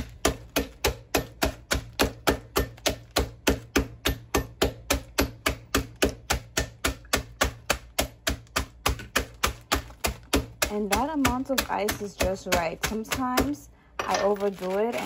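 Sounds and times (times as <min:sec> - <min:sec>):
mallet pounding ice in plastic bag: 0:00.0 - 0:15.0.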